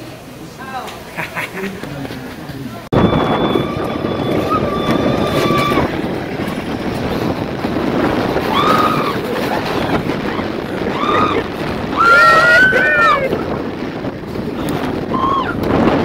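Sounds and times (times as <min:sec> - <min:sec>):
bobsled cart rushing rumble: 0:02.1 - 0:16.0
wind on microphone: 0:02.9 - 0:16.0.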